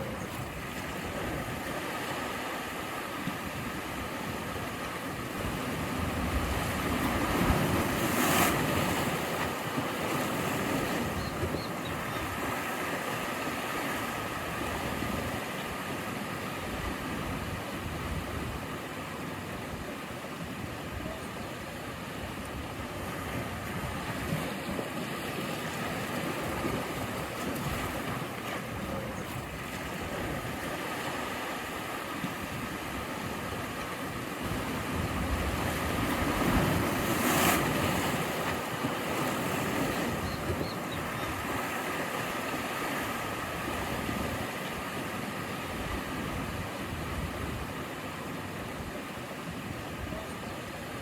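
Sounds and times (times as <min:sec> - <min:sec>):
ocean waves washing ashore: 0:00.0 - 0:51.0.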